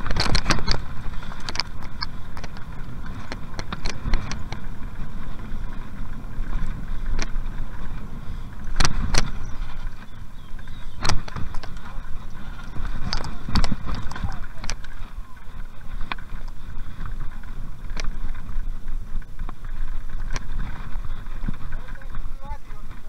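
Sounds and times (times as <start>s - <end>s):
bike knocking and rattling over bumps: 0.0s - 23.0s
wind and tyres rumbling: 0.0s - 23.0s.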